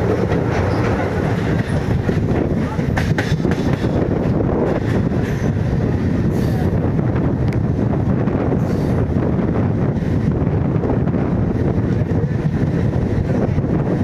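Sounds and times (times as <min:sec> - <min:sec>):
electric train running: 0:00.0 - 0:14.0
wind buffeting microphone: 0:00.0 - 0:14.0.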